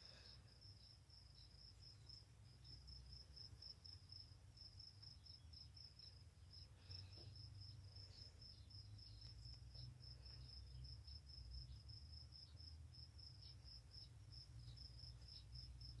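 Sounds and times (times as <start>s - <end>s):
cricket chirping: 0.0s - 16.0s.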